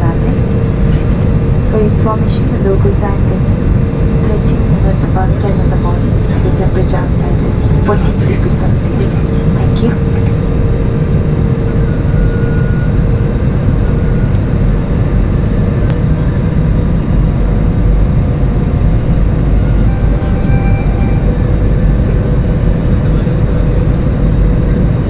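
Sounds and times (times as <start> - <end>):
airliner cabin rumble: 0.0 - 25.0
faint constant hum: 0.0 - 25.0.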